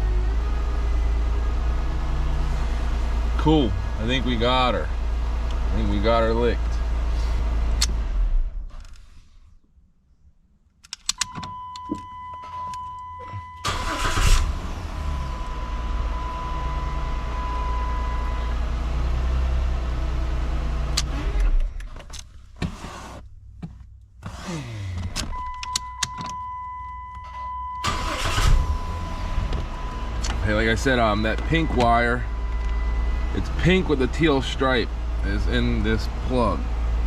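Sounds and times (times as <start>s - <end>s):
car engine cranking and running: 0.0s - 9.4s, 10.8s - 37.0s.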